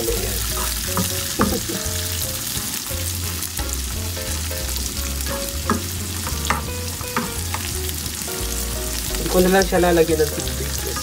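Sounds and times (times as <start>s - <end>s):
vegetables sizzling in pan: 0.0s - 11.0s.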